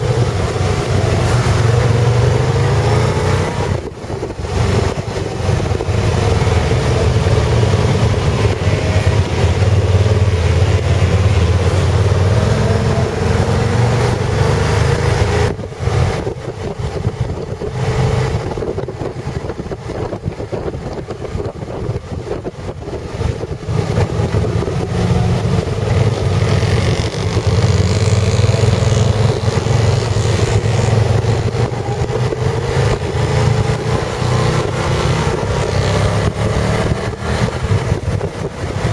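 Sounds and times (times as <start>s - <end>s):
motorbike engine running: 0.0s - 38.9s
wind rushing over microphone: 0.0s - 38.9s.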